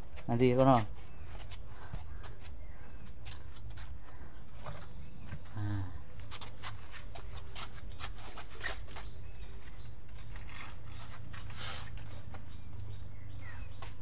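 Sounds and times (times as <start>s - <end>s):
rustling and scraping: 0.0s - 14.0s.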